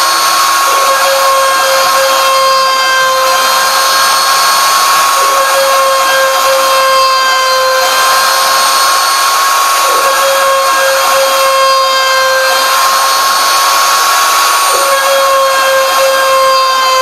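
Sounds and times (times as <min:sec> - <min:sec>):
router spindle high whine: 0:00.0 - 0:17.0.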